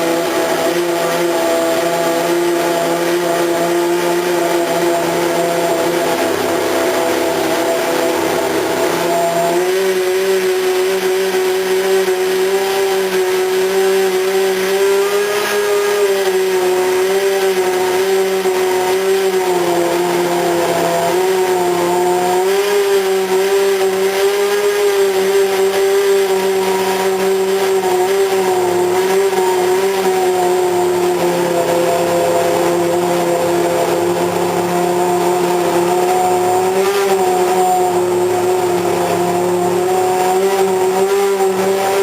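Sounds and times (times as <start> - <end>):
racing car engine high revs: 0.0 - 42.0.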